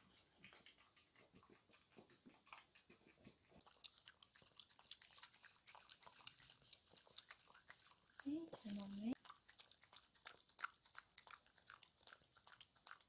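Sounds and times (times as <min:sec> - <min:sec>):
dog licking: 0:00.0 - 0:13.0.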